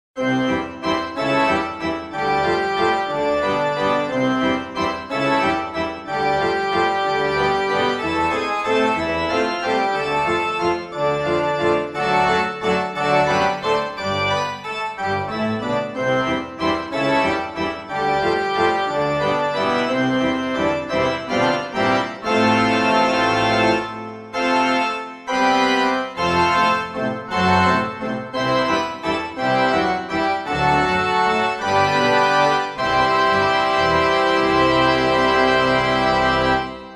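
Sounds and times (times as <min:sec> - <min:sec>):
instrumental music: 0:00.2 - 0:36.9.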